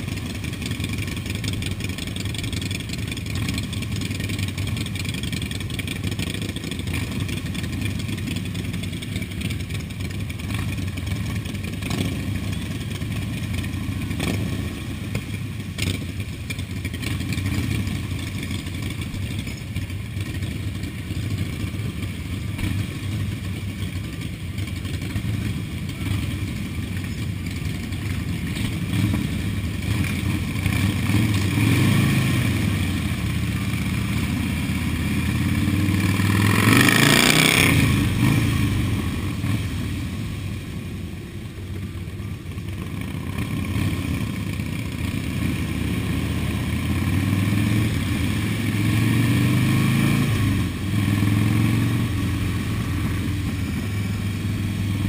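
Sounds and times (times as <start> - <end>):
motorcycle engine revving: 0.0 - 55.0
motorcycles running at low speed: 0.0 - 55.0.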